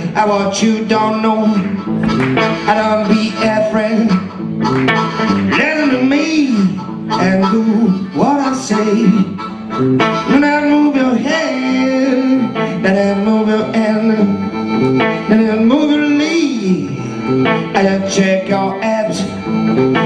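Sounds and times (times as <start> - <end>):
electric guitar rhythm: 0.0 - 20.0
harmonica bending held notes: 0.0 - 20.0.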